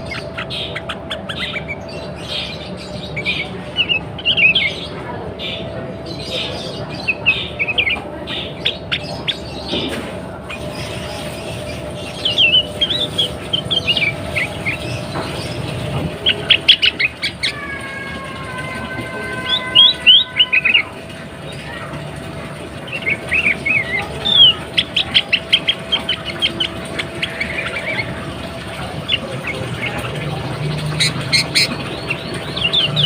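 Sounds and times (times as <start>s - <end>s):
bird chirping: 0.0s - 33.0s.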